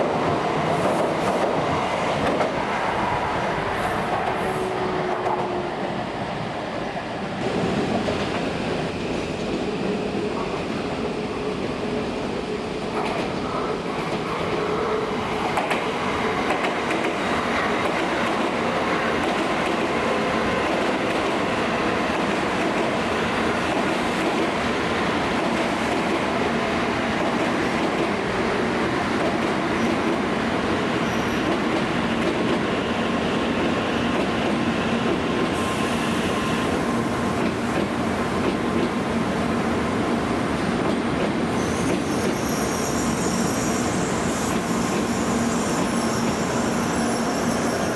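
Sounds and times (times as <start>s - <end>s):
train wheels rolling on track: 0.0s - 47.9s.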